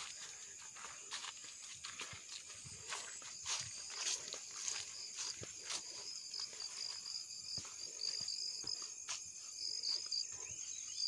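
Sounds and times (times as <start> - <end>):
footsteps on dirt path: 0.0 - 11.0.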